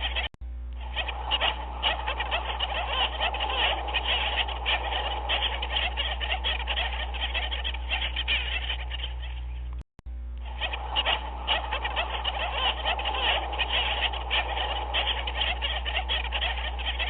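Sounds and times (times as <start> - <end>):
penguins calling: 0.0 - 9.8, 10.4 - 17.0
low hum: 0.0 - 17.0.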